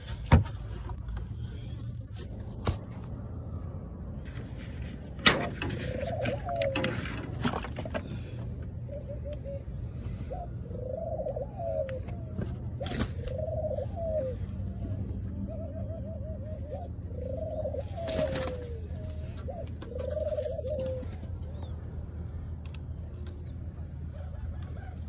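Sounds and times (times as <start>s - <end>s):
pigeons cooing: 0.0s - 21.9s.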